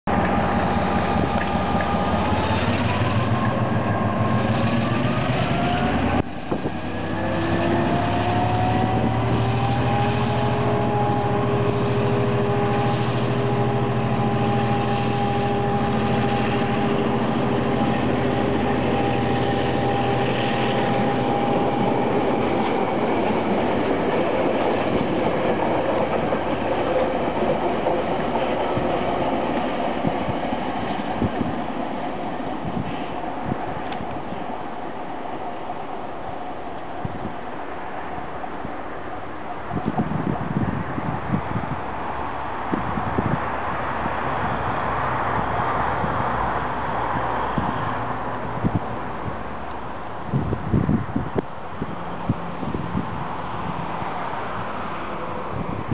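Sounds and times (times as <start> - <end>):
train rumbling: 0.0 - 55.9
diesel locomotive engine revving: 0.1 - 55.9.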